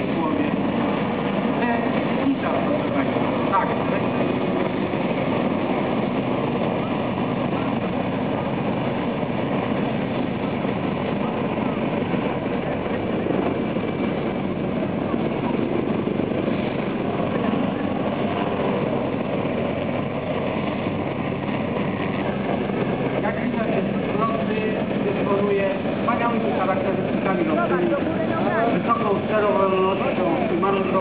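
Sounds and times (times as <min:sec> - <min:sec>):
distant helicopter rotor and engine: 0:00.0 - 0:31.0.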